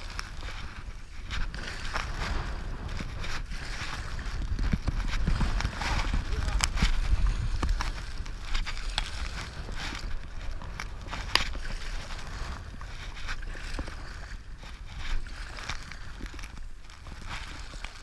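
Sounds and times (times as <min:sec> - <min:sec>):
water sloshing and splashing: 0:00.0 - 0:18.0
wind rumble on microphone: 0:00.0 - 0:18.0.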